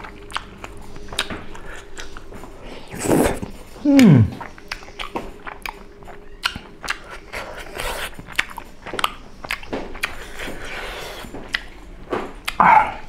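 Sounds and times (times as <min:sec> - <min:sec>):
person chewing with wet smacks: 0:00.0 - 0:13.0.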